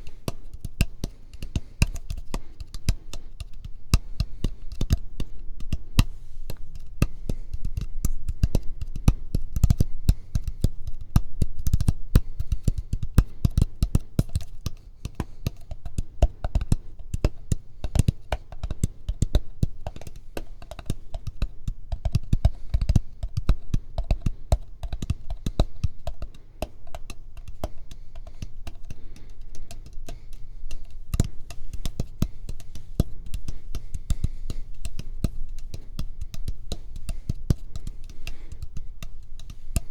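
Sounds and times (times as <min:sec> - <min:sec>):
rapid tapping: 0:00.0 - 0:39.9.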